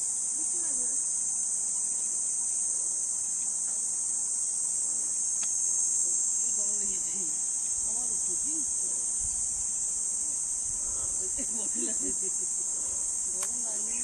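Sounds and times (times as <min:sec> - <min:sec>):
insect chorus drone: 0:00.0 - 0:14.0.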